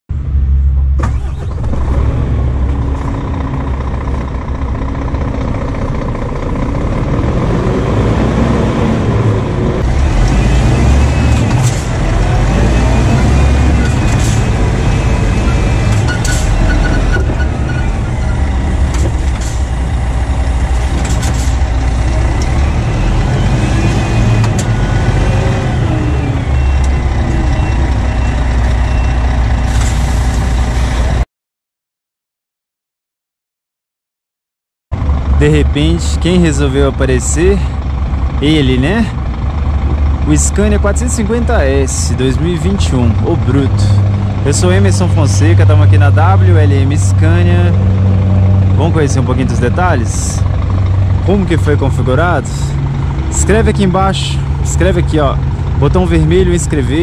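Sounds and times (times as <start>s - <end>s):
truck diesel engine running: 0.1s - 31.2s, 34.9s - 57.0s.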